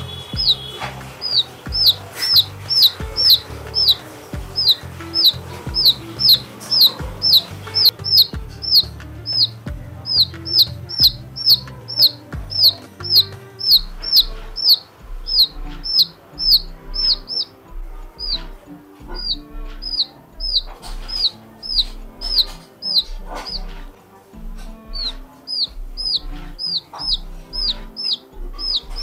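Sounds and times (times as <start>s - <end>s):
chick peeping: 0.0s - 23.9s, 24.7s - 29.0s
background music: 0.0s - 29.0s.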